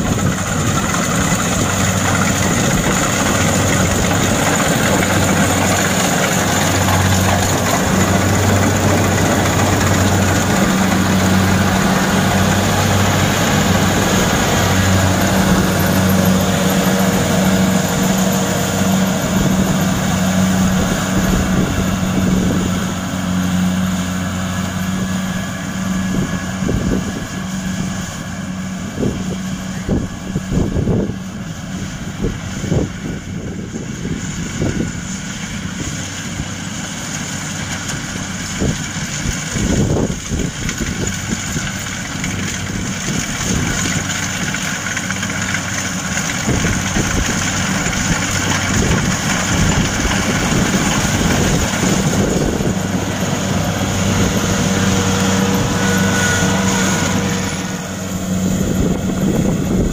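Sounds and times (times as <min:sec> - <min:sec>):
diesel engine drone: 0:00.0 - 0:59.9
harvester machinery clatter: 0:00.0 - 0:59.9.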